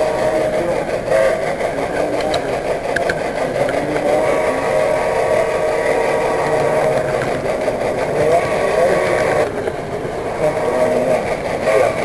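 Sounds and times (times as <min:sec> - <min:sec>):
light clicks of train wheels: 0:00.0 - 0:12.0
model train motor and wheel hum: 0:00.0 - 0:12.0.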